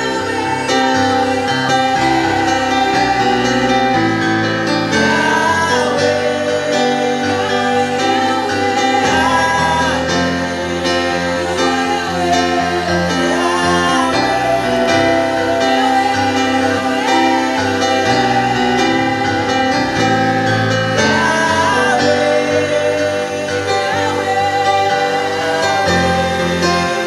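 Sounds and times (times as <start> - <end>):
person singing gospel song: 0.0 - 27.0.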